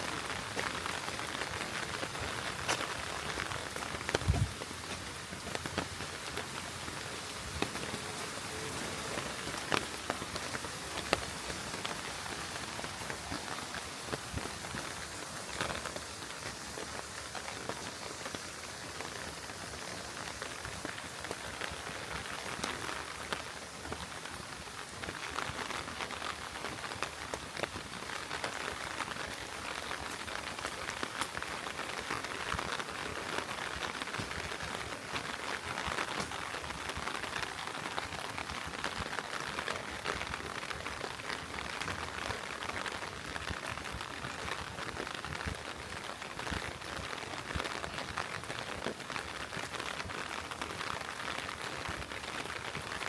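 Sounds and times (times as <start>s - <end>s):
heavy rain on a street: 0.0s - 53.0s.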